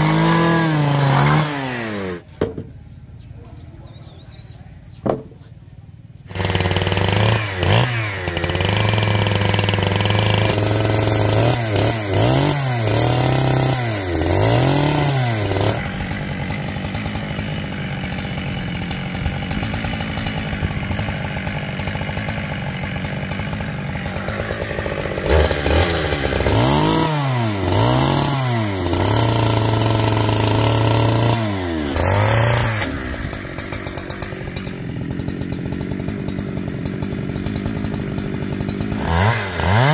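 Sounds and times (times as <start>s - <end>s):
chainsaw running: 0.0s - 2.6s, 6.3s - 39.9s.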